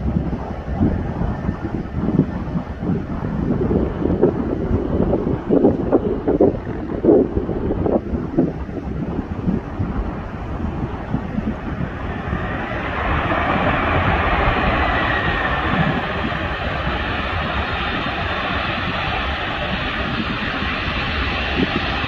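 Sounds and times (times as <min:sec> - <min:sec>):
jet engines rushing: 0:00.0 - 0:22.0
wind buffeting microphone: 0:00.0 - 0:22.0.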